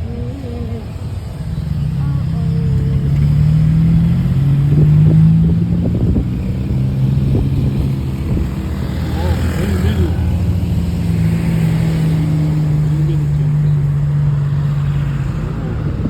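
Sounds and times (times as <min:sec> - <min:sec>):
vehicle engine accelerating: 0:00.0 - 0:16.0.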